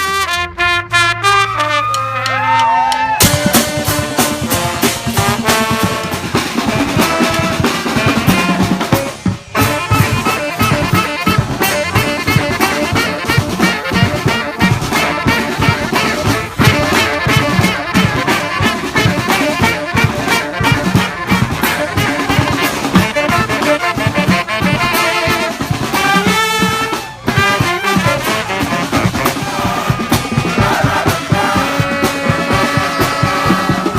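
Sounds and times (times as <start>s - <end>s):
brass band horns: 0.0s - 33.9s
steady drum beat: 3.2s - 33.9s.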